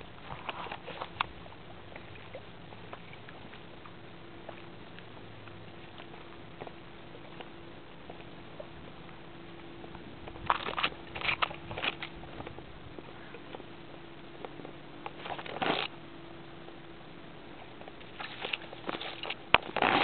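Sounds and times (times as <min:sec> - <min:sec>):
leaves rustling against camera: 0:00.0 - 0:16.0, 0:17.6 - 0:20.0
faint steady hum: 0:00.0 - 0:20.0.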